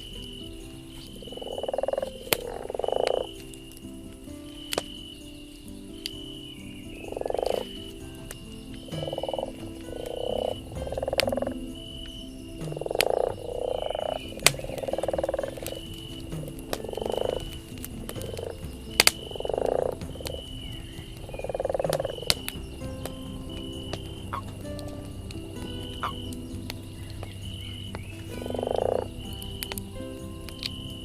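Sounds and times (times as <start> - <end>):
frogs croaking: 0.0 - 31.0
wood fire crackling and popping: 0.0 - 31.0.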